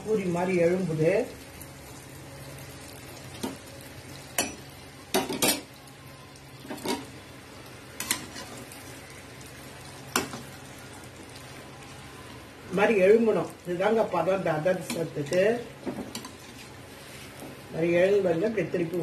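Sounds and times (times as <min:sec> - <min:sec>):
dough sizzling in hot oil: 0:00.0 - 0:19.0.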